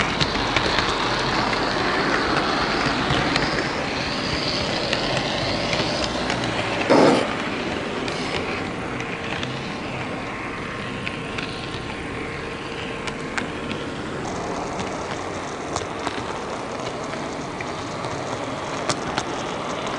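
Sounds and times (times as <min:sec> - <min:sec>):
model train motor whirring: 0:00.0 - 0:19.9
train rumble: 0:00.0 - 0:19.9
wheels clicking over rail joints: 0:00.0 - 0:19.9.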